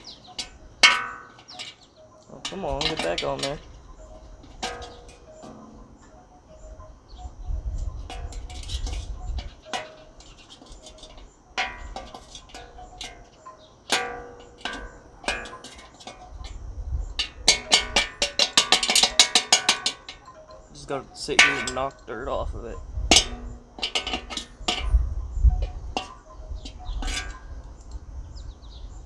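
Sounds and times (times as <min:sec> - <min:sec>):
hand tools tapping metal: 0:00.0 - 0:07.0, 0:07.7 - 0:28.0.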